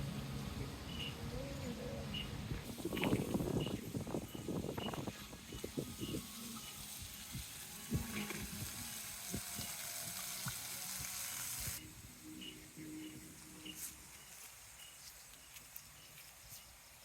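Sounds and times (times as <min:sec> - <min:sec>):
faint background music: 0:00.0 - 0:16.9
steady hiss: 0:00.0 - 0:17.0.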